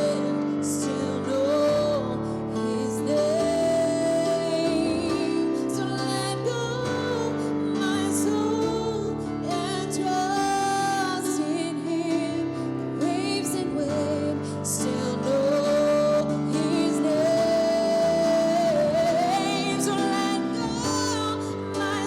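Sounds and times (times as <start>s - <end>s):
person singing gospel song: 0.0s - 22.0s.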